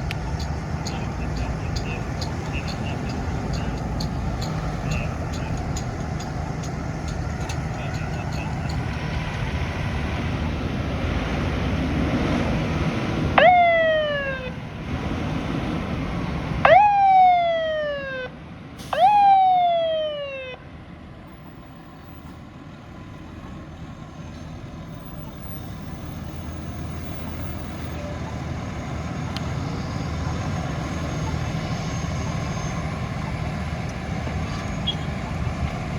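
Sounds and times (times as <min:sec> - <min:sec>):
emergency siren blasts: 0:00.0 - 0:20.7, 0:24.8 - 0:35.9
traffic rumble: 0:00.0 - 0:35.9
vehicle engine rumble: 0:00.0 - 0:35.9.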